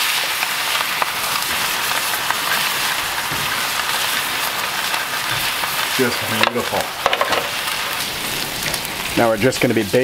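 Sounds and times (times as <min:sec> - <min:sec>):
steaks sizzling in a skillet: 0:00.0 - 0:10.0
small pops: 0:00.7 - 0:09.0.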